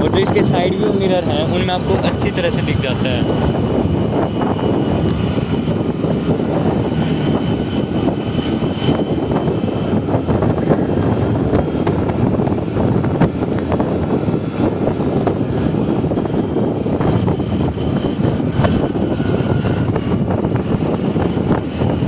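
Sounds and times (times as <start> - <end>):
wind and road noise: 0.0 - 22.0
scooter engine: 3.1 - 22.0.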